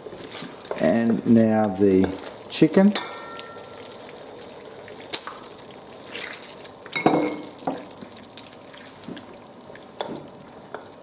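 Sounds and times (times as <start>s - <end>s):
low steady sizzle: 0.0s - 11.0s.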